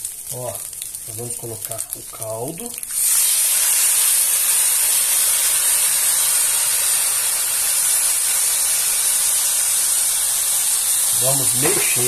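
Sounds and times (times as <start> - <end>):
broth pouring into hot pot: 0.0 - 12.0
sizzling hiss of steam: 0.0 - 12.0.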